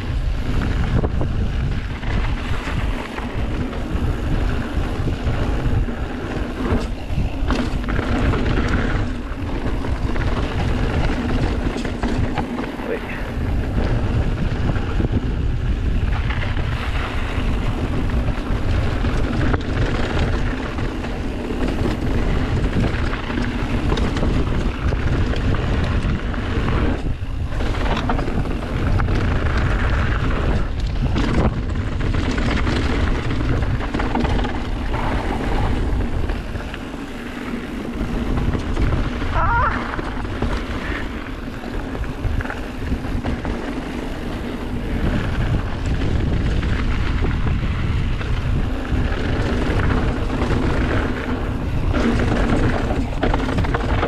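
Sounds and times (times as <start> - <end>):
bike tyres rumbling and rattling: 0.0 - 54.0
wind buffeting microphone: 0.0 - 54.0.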